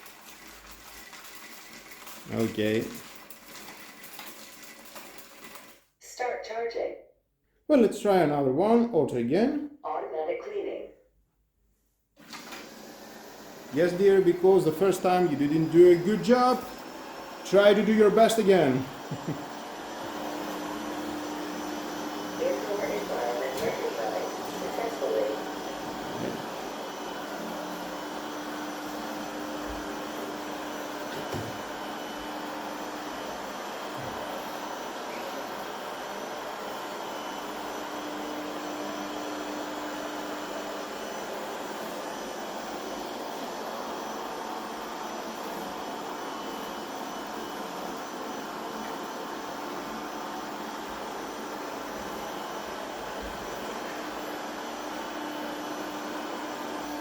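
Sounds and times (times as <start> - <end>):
robot vacuum whirring: 0.0 - 5.7, 12.2 - 57.0.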